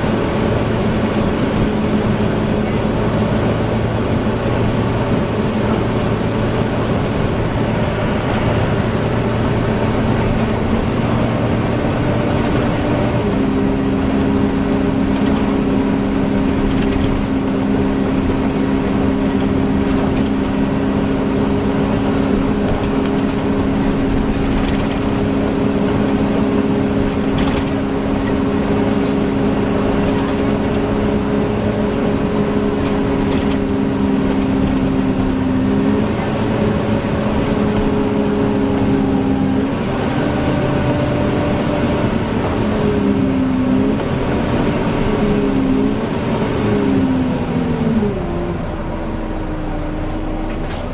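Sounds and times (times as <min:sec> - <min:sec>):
bus engine whine: 0:00.0 - 0:50.9.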